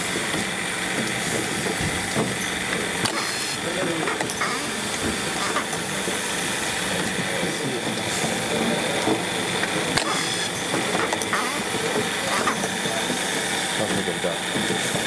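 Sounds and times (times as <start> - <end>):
machinery hiss and hum: 0.0 - 15.0
faint voices: 1.4 - 15.0.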